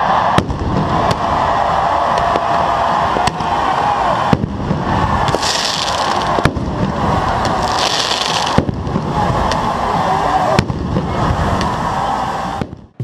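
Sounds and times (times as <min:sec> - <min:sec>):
dense stadium noise: 0:00.0 - 0:13.0
pyrotechnic bangs: 0:00.2 - 0:09.9, 0:10.5 - 0:11.8.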